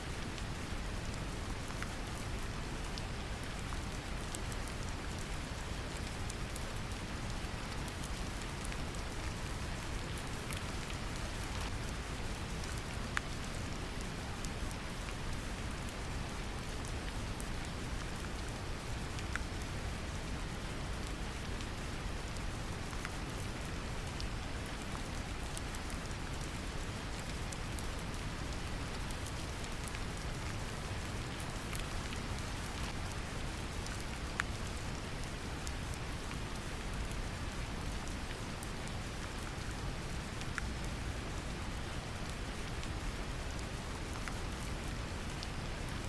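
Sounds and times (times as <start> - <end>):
raindrops pattering: 0.1 - 46.0.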